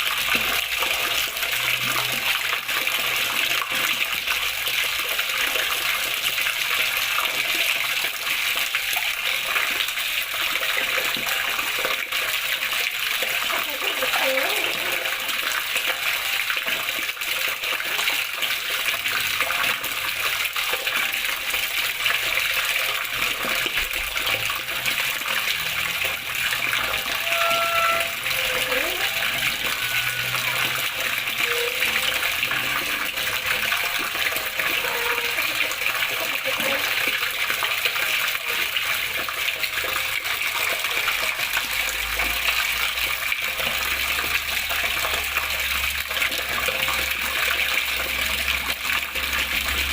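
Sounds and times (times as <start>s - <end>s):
water flowing and splashing: 0.0s - 49.9s.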